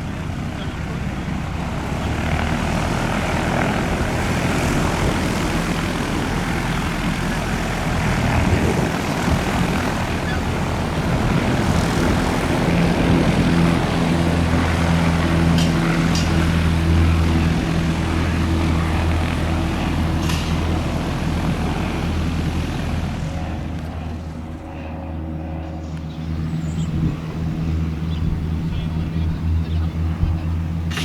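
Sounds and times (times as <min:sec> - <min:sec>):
light aircraft engine and propeller: 0:00.0 - 0:31.0.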